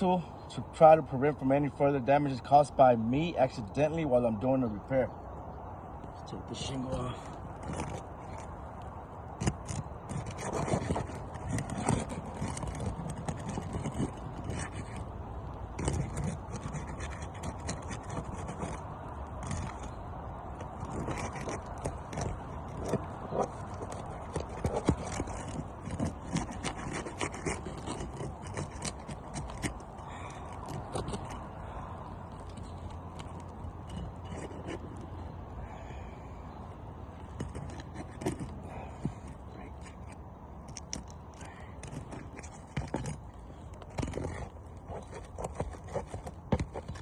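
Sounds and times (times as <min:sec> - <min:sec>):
shingle scraping: 0:00.0 - 0:47.0.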